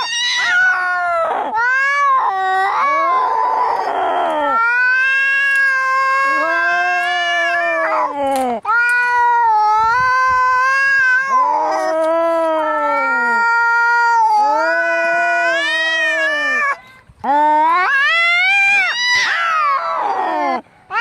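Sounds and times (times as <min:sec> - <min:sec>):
cats caterwauling: 0:00.0 - 0:21.0.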